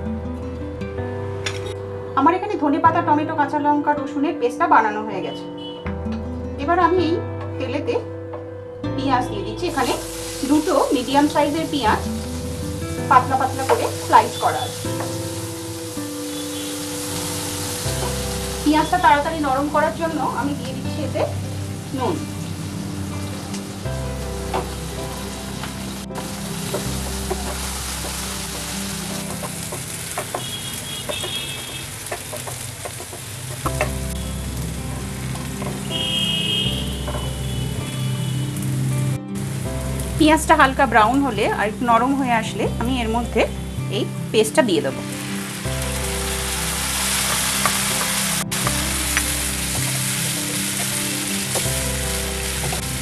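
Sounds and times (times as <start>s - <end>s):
background music: 0.0s - 53.0s
onions sizzling in oil: 9.6s - 53.0s.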